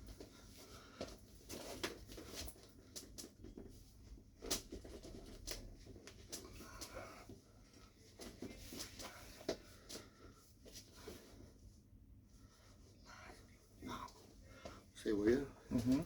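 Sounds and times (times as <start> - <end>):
faint clicks and rustles: 0.0 - 14.9
low steady hum: 0.0 - 16.0.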